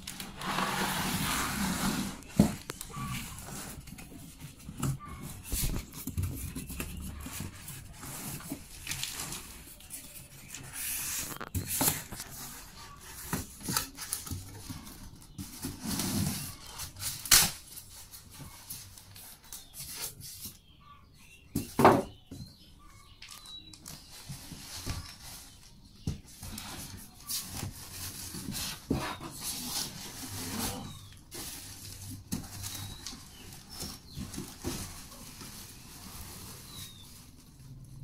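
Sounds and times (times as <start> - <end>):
rustling of wrapping: 0.0 - 20.6, 22.8 - 38.0.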